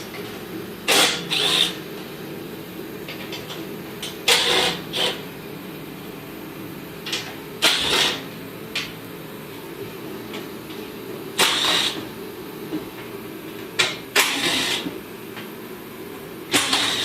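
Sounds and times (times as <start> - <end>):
heater humming: 0.0 - 17.0.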